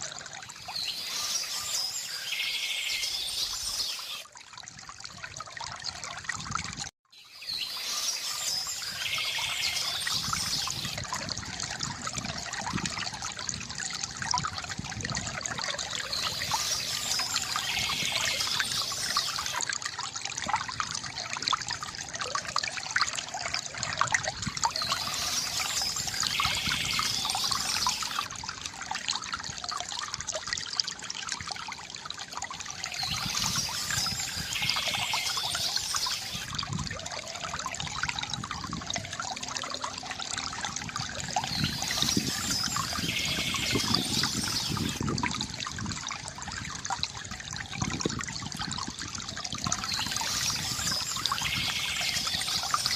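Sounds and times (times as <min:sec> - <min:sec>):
fountain water trickling: 0:00.0 - 0:52.9.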